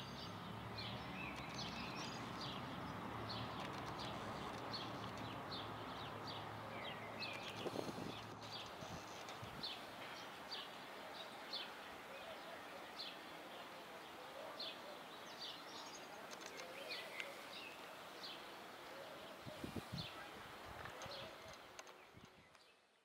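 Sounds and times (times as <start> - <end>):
distant city noise: 0.0 - 22.1
small birds chirping: 0.0 - 23.0.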